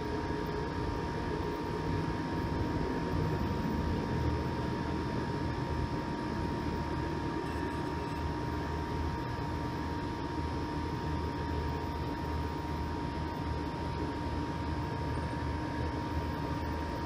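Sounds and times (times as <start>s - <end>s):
thin whine: 0.0s - 17.0s.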